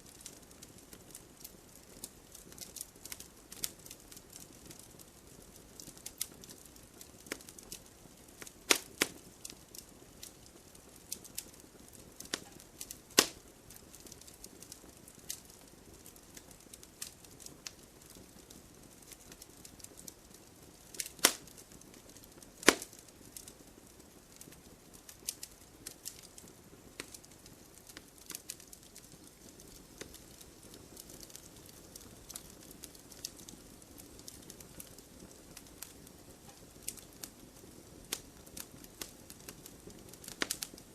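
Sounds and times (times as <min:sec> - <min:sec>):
campfire crackling: 0:00.0 - 0:40.9
faint fire hiss: 0:00.0 - 0:40.9
sharp fire pops: 0:07.2 - 0:20.2, 0:20.9 - 0:40.9.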